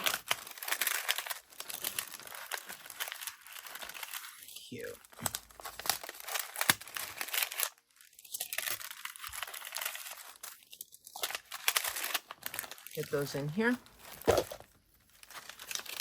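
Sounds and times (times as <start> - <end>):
paper crinkling and rustling: 0.0 - 16.0.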